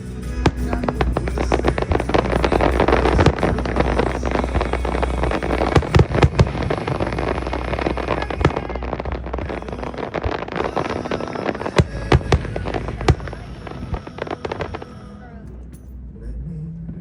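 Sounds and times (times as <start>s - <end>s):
fireworks crackling: 0.0s - 15.2s
fireworks bangs: 0.3s - 15.0s.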